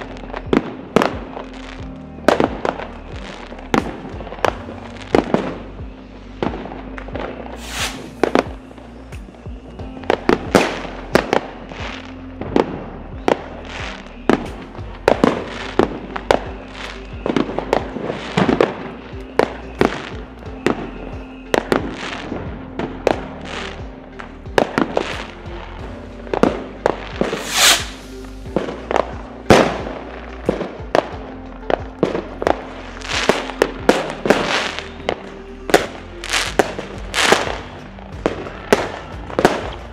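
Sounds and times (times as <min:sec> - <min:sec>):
background music: 0:00.0 - 0:39.9
fireworks bangs: 0:06.4 - 0:23.9, 0:24.5 - 0:39.9.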